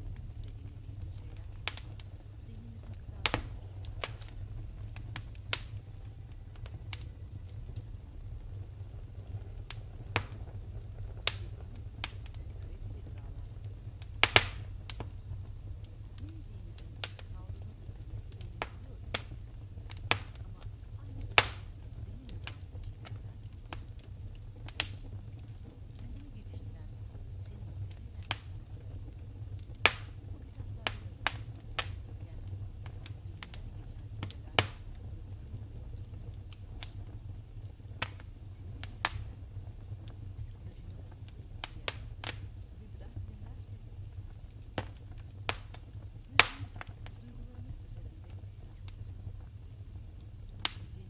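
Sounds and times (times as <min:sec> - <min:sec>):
fire popping: 0:00.0 - 0:51.0
low steady rumble: 0:00.0 - 0:51.0
wood fire crackling: 0:00.0 - 0:51.0.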